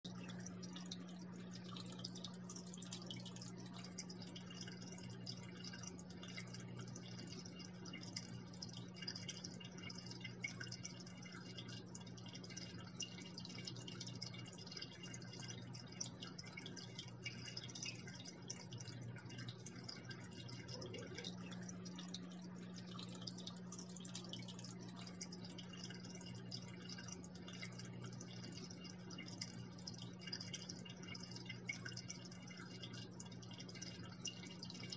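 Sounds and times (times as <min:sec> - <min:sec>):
steady low hum: 0:00.0 - 0:34.9
water trickling and splashing: 0:00.1 - 0:34.9.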